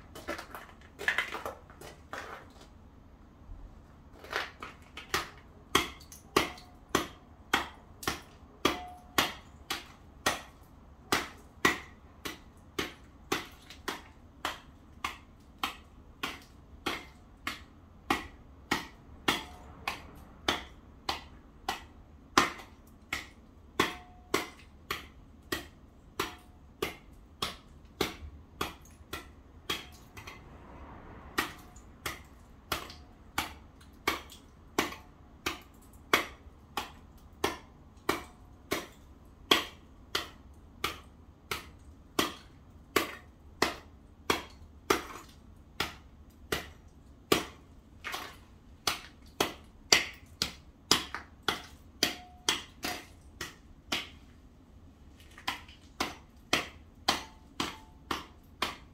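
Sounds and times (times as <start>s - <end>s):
tool chipping at ice: 4.1s - 54.4s, 55.1s - 58.9s.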